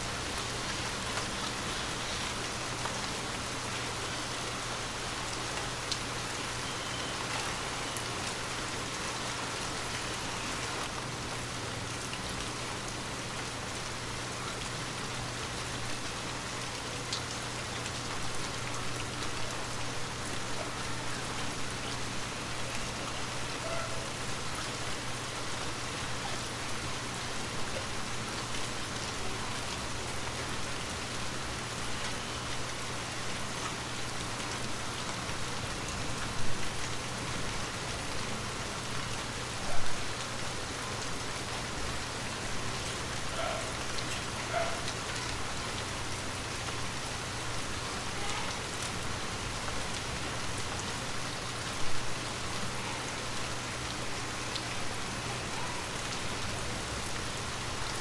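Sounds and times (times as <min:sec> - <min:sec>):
light rain on a window: 0:00.0 - 0:58.0.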